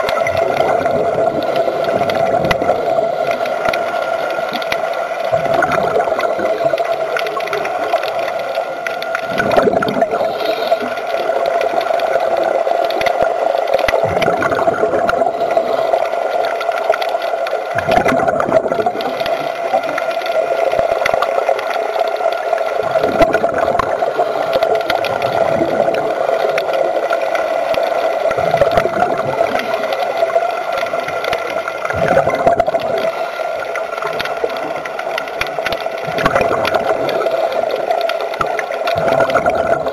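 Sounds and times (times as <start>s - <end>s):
regulator bubbles gurgling: 0.0s - 39.9s
underwater hum: 0.0s - 39.9s.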